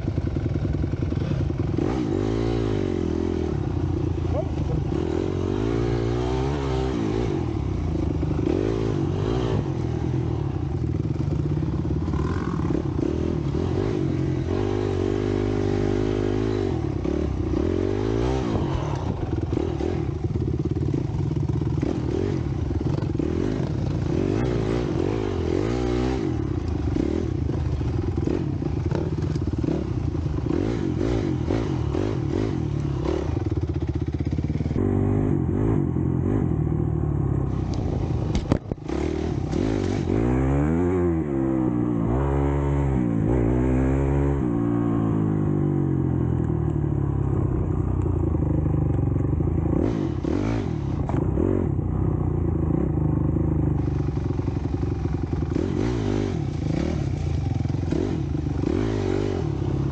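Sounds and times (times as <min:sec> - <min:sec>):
dirt bike engine revving: 0:00.0 - 0:46.1, 0:49.6 - 0:51.8, 0:52.7 - 0:59.9.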